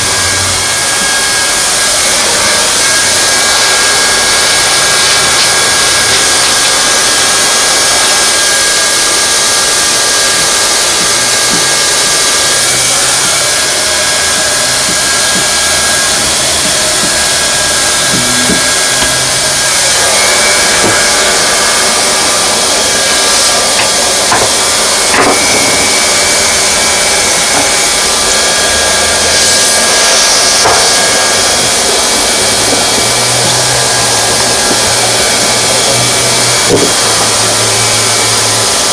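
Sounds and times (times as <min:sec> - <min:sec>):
hot-air welding gun blowing: 0:00.0 - 0:38.9.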